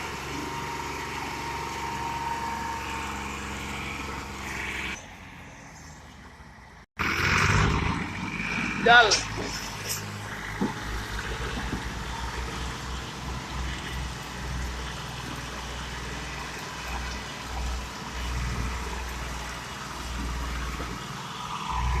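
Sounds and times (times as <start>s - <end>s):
tractor engine rumbling: 0.0s - 22.0s.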